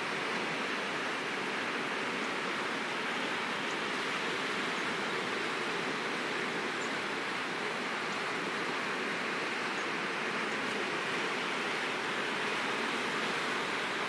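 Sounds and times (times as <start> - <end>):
small waves breaking on shore: 0.0 - 14.0.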